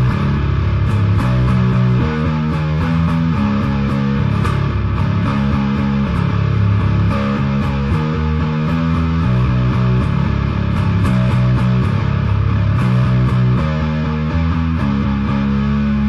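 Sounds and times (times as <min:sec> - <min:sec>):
bass guitar riff: 0:00.0 - 0:16.0
steady rock beat: 0:00.0 - 0:16.0.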